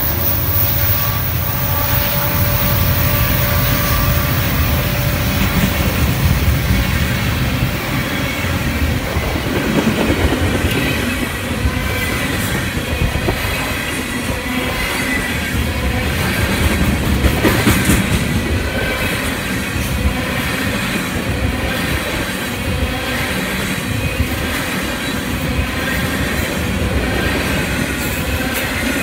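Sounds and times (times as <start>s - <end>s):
diesel locomotive engine: 0.0s - 29.0s
train wheels clickety-clack: 0.0s - 29.0s.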